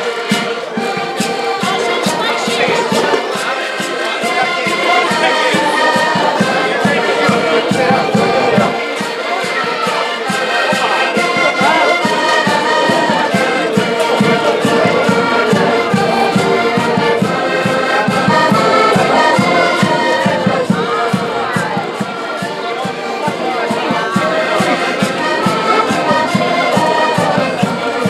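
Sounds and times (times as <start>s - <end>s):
accordion ensemble playing folk tune: 0.0s - 28.0s.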